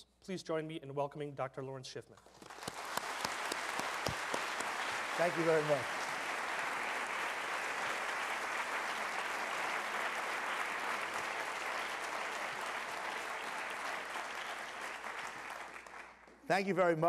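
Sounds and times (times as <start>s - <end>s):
audience applauding: 2.3s - 17.0s.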